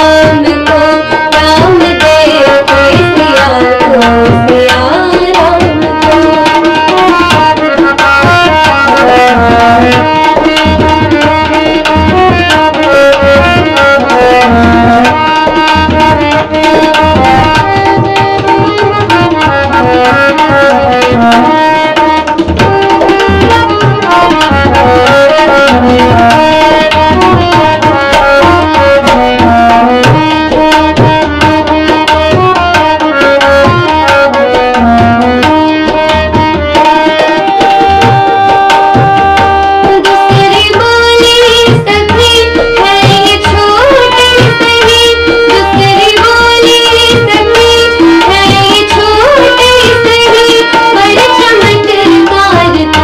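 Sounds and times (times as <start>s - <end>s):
tabla drumming: 0.0s - 53.0s.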